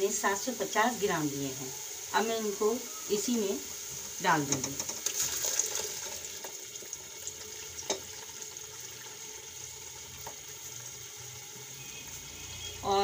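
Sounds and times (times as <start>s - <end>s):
oil sizzling in a pot: 0.0s - 13.0s.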